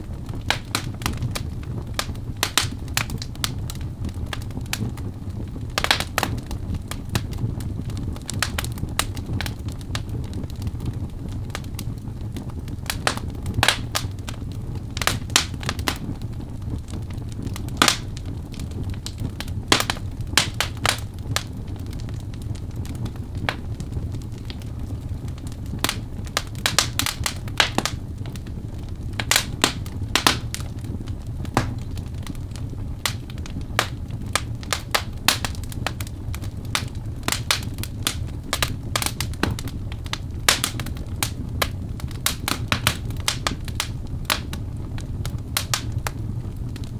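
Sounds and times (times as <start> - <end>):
fire roaring: 0.0 - 46.9
wood crackling and popping: 0.0 - 46.9.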